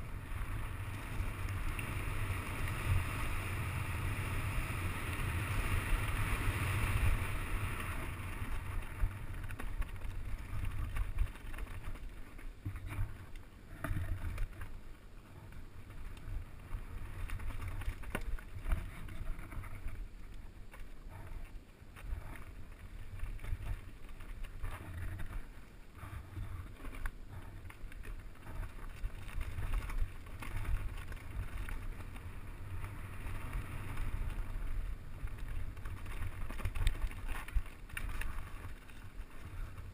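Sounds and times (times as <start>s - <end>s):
bike knocking and rattling: 0.0s - 39.9s.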